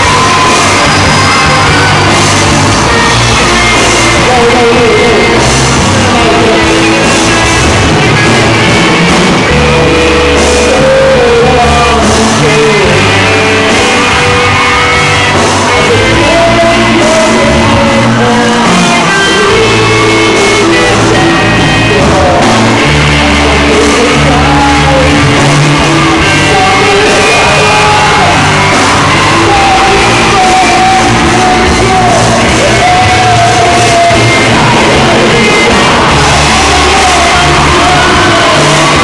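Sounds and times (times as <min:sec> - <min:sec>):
live rock band playing: 0:00.0 - 0:39.0
person singing into microphone: 0:00.0 - 0:39.0.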